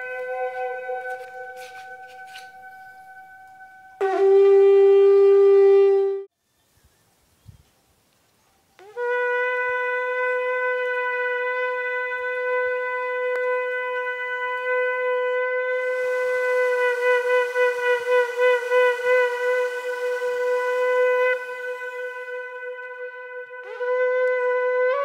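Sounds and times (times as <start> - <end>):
goat horn blown: 0.0 - 6.3, 8.8 - 25.0.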